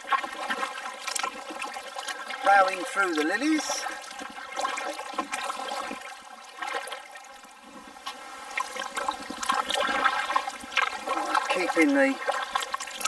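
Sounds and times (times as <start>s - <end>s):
water dripping off paddle: 0.0s - 7.3s, 8.0s - 13.0s
paddle splashing water: 0.0s - 13.0s.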